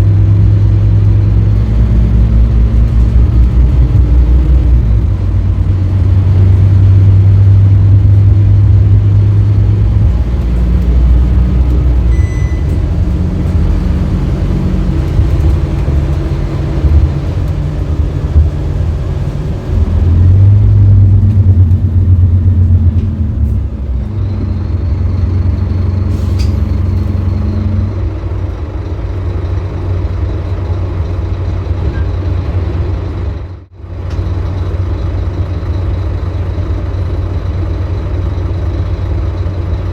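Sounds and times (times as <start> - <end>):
bus diesel engine pulling: 0.0 - 39.9.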